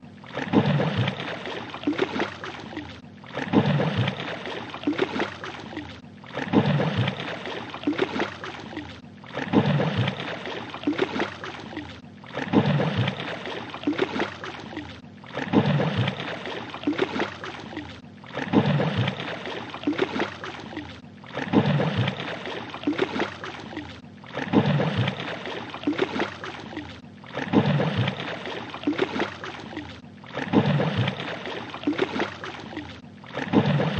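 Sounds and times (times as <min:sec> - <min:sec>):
fish splashing at water surface: 0:00.0 - 0:33.9.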